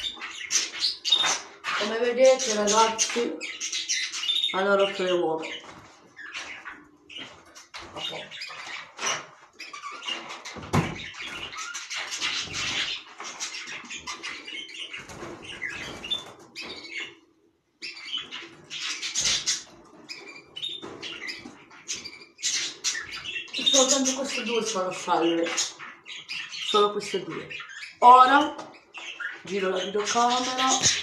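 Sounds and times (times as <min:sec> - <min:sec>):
canaries chirping: 0:00.0 - 0:31.0.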